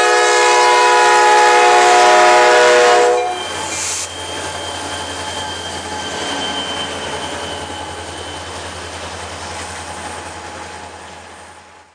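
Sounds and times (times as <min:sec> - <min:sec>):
train wheels rumbling and rattling: 0:00.0 - 0:11.9
high wheel squeal: 0:02.0 - 0:11.8.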